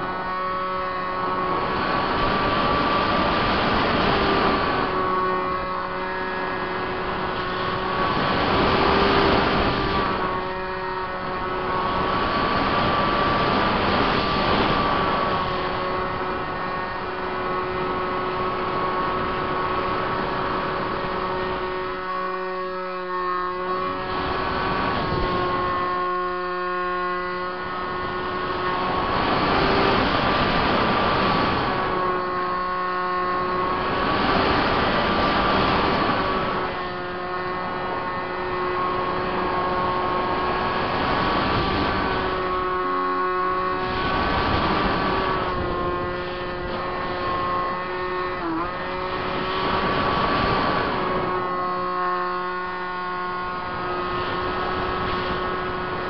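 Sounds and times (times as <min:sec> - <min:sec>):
electric motor and propeller whine: 0:00.0 - 0:56.0
rushing airflow noise: 0:00.0 - 0:56.0.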